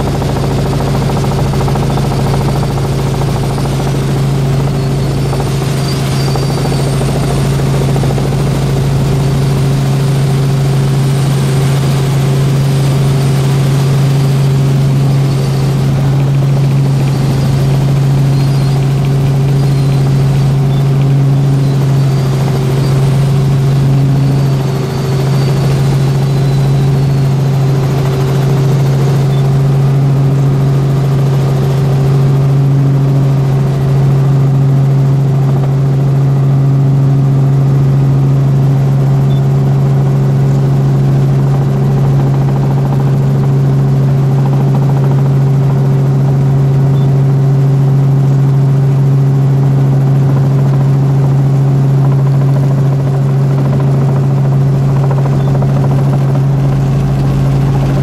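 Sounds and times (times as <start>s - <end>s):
helicopter engine and rotors drone: 0.0s - 58.0s.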